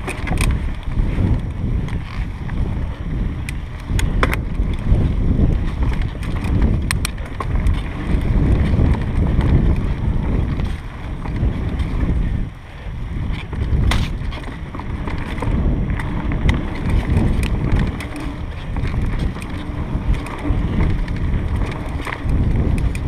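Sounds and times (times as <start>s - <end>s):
bike clicks and rattles: 0.0s - 23.0s
bike tyres rolling on dirt: 0.0s - 23.0s
wind rumble on microphone: 0.0s - 23.0s.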